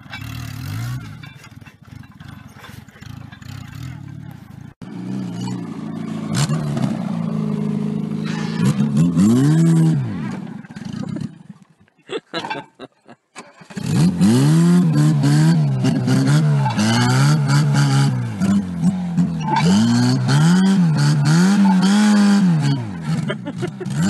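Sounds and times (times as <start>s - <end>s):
car engine revving: 0.0s - 11.6s, 13.4s - 24.0s.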